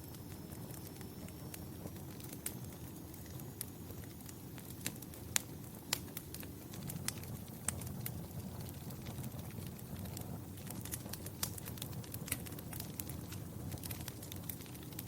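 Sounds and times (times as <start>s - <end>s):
fire pops and snaps: 0.0s - 15.0s
low rumble of flames: 0.0s - 15.0s
wood fire crackling: 0.0s - 15.0s.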